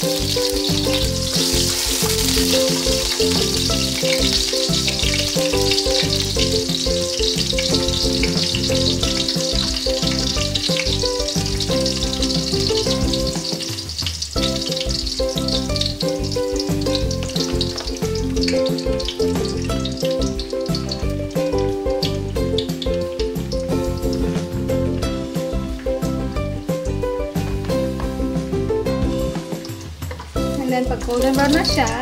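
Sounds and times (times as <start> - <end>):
background music with steady beat: 0.0 - 32.0
garlic sizzling in oil: 0.0 - 32.0.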